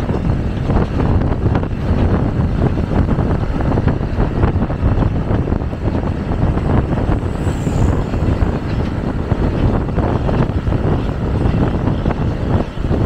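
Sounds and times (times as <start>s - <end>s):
vehicle low rumble: 0.0s - 13.0s
wind buffeting microphone: 0.0s - 13.0s.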